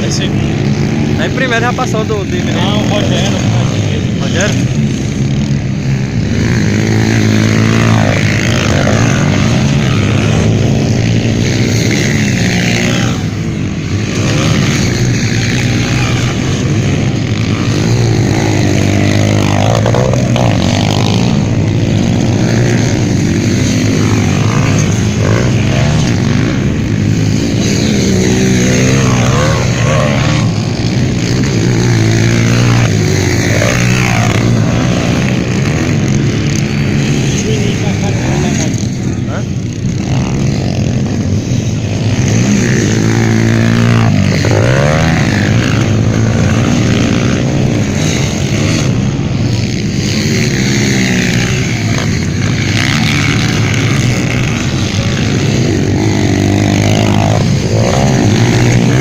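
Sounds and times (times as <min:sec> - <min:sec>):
motocross motorcycles revving: 0:00.0 - 0:59.0.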